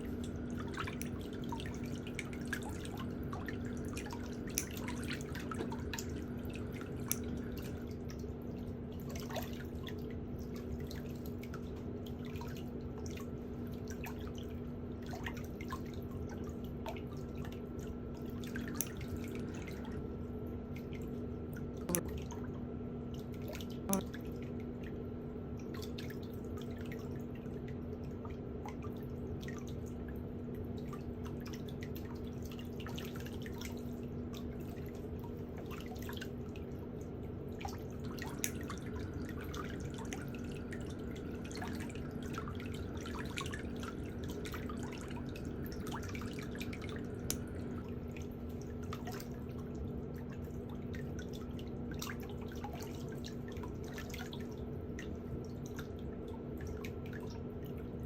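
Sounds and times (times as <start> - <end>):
steady low hum: 0.0 - 27.2, 31.6 - 58.0.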